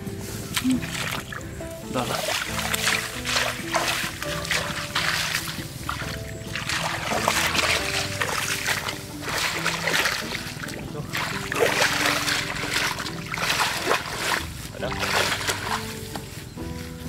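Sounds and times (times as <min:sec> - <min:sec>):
shallow water splashing: 0:00.0 - 0:16.7
background music with held notes: 0:00.0 - 0:17.0.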